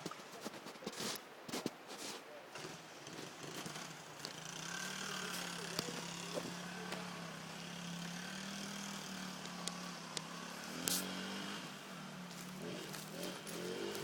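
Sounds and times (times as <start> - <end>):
minibike engine running: 2.6 - 14.0.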